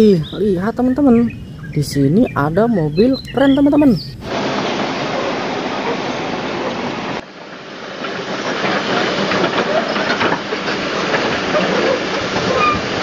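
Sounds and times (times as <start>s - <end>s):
crane engine running: 0.0s - 13.0s.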